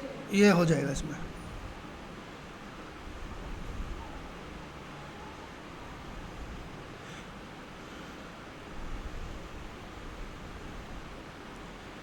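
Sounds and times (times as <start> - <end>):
room tone hiss: 0.0 - 12.0.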